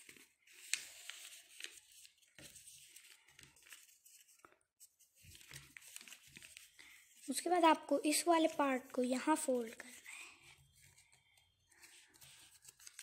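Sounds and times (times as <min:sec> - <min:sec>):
paper crackles: 0:00.0 - 0:13.0
paper rustling and crinkling: 0:00.0 - 0:13.0.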